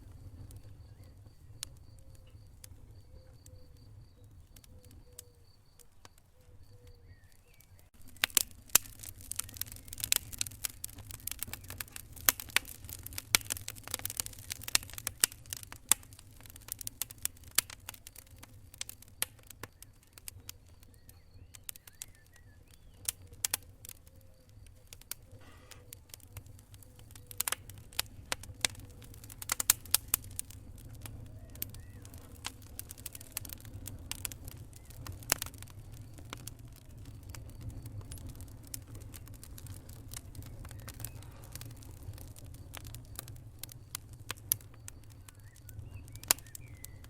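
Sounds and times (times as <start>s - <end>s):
low rumble of flames: 0.0s - 47.0s
wood fire crackling and popping: 0.0s - 47.0s.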